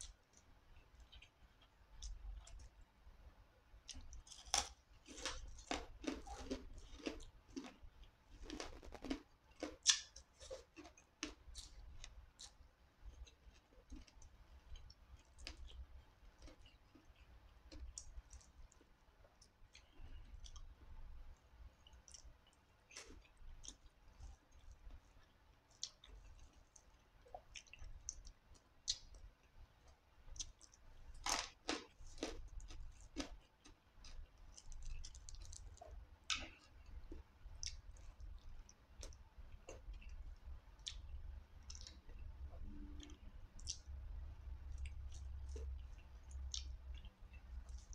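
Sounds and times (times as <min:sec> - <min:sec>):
chewing: 0:03.8 - 0:20.8, 0:21.8 - 0:47.9.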